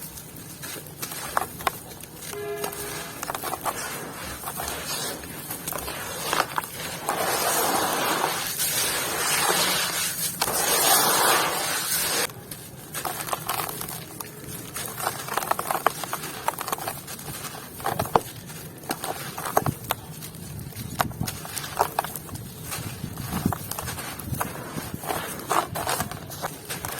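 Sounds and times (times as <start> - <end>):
dry material crumbling: 0.0 - 26.9.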